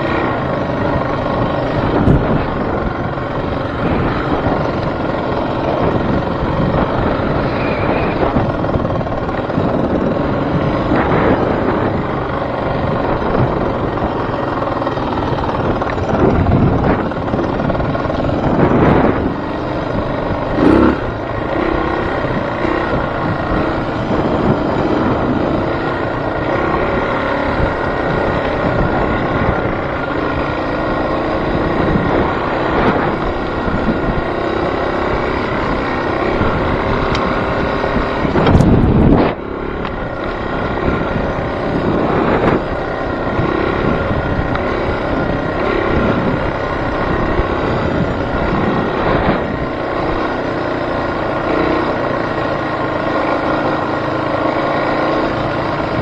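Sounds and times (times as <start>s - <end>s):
vehicle engine running: 0.0s - 56.0s
wind buffeting microphone: 0.0s - 56.0s.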